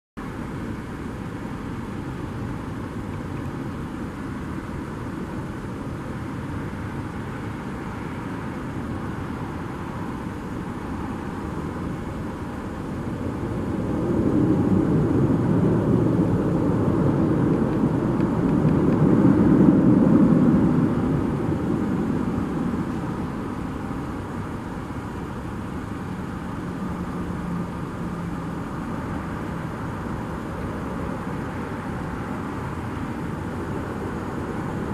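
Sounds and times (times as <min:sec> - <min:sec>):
background hum: 0:00.2 - 0:34.9
jet airliner engine passing: 0:00.2 - 0:34.9.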